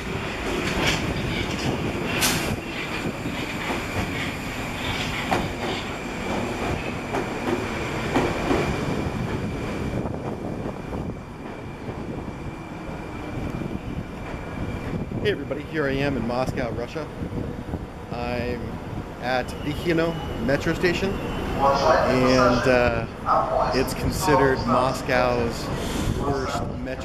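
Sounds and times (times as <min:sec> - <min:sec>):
metro train rumbling past: 0:00.0 - 0:27.0.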